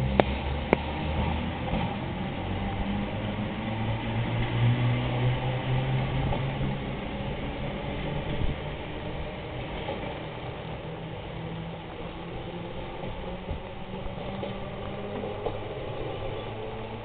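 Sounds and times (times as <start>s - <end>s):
electric train motor drone: 0.0s - 17.0s
train rumbling: 0.0s - 17.0s.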